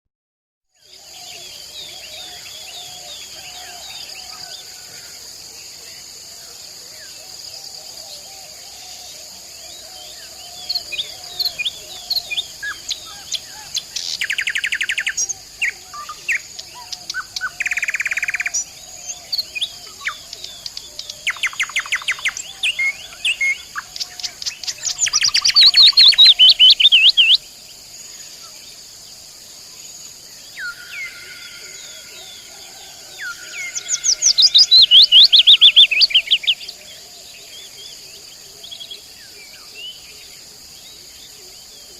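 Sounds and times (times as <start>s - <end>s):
nightingale singing: 6.9s - 41.9s.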